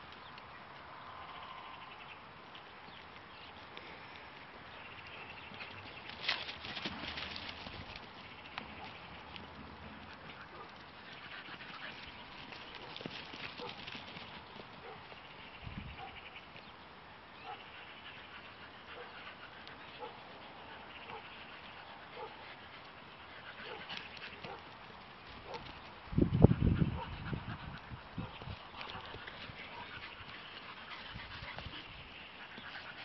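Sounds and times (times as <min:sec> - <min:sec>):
faint field ambience: 0:00.0 - 0:33.0.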